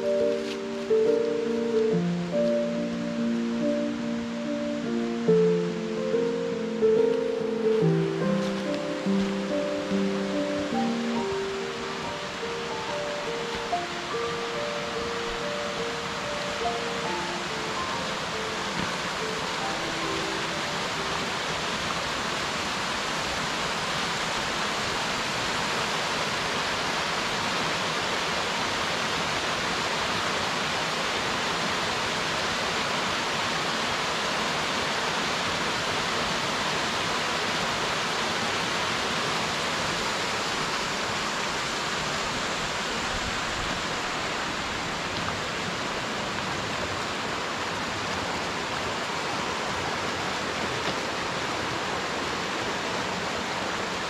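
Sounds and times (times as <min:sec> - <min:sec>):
stream cascading over rocks: 0:00.0 - 0:54.0.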